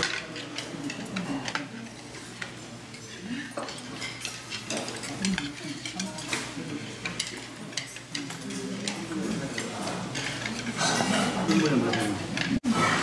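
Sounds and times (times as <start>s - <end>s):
faint murmur of voices: 0.0s - 13.0s
metal utensils clinking on bowls: 0.0s - 13.0s.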